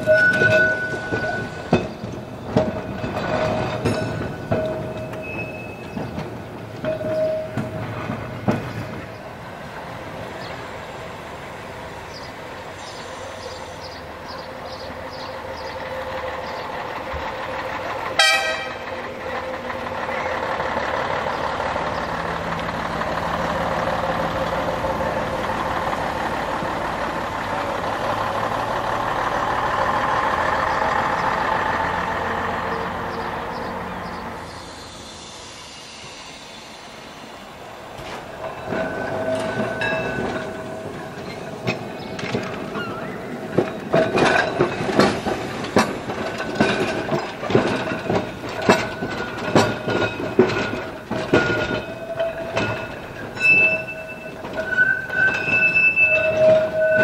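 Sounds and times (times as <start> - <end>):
tram running on rails: 0.0 - 57.0.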